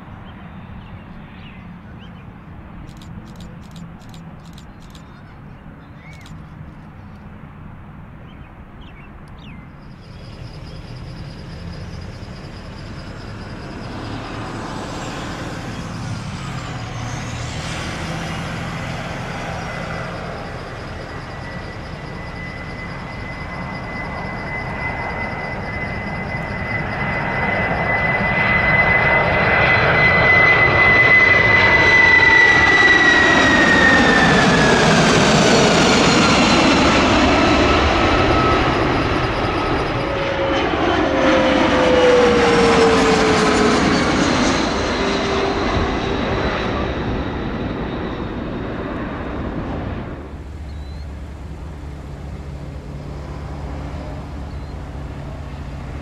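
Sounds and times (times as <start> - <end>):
high jet whine: 0.0 - 56.0
jet engines roaring: 0.0 - 56.0.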